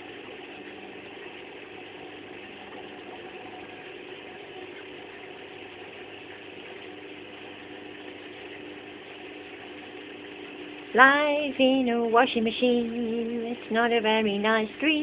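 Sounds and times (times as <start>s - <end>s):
washing machine hum and churn: 0.0s - 15.0s.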